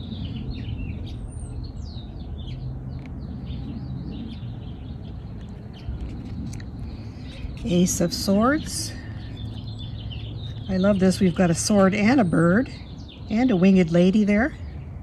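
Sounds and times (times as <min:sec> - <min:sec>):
birds chirping and twittering: 0:00.0 - 0:15.0
steady low rumble: 0:00.0 - 0:15.0.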